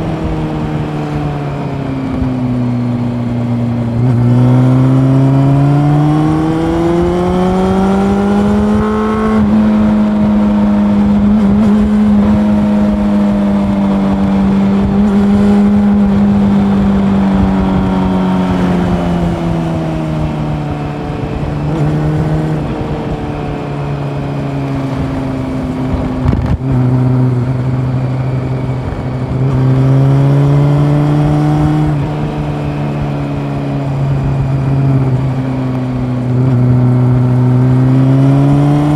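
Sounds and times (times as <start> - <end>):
motorcycle engine revving: 0.0 - 38.9
wind and road rush: 0.0 - 38.9.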